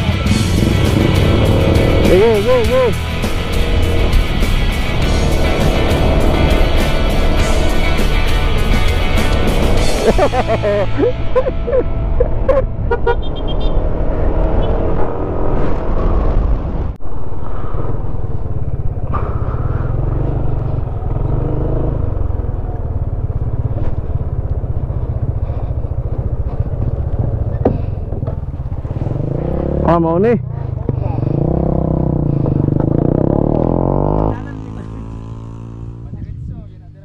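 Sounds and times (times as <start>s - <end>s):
motorcycle engine running: 0.0s - 15.4s, 17.1s - 37.0s.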